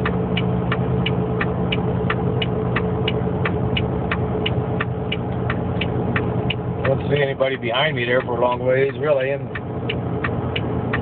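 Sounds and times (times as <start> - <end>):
diesel truck engine droning: 0.0 - 11.0
light regular ticking: 0.0 - 11.0.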